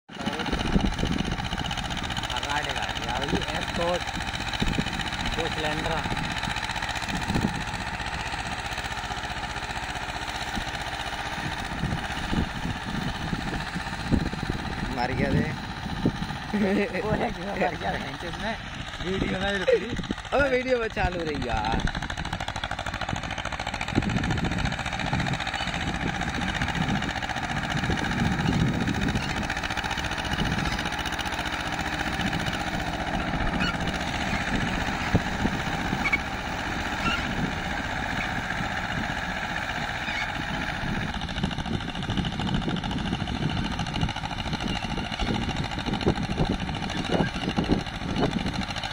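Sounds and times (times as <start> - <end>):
tractor diesel engine running: 0.1 - 48.9.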